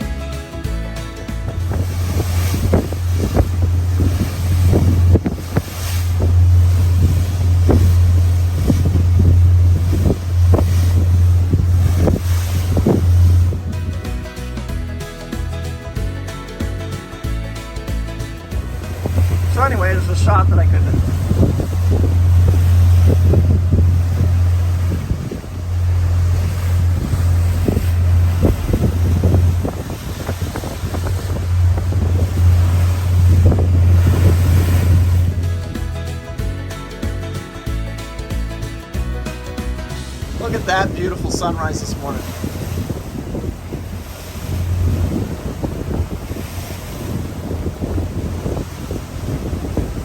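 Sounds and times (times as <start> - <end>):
diesel engines droning: 0.8 - 38.0, 39.8 - 50.0
water rushing past: 1.0 - 37.5, 39.5 - 50.0
wind buffeting microphone: 1.2 - 14.9, 18.2 - 37.2, 40.0 - 50.0.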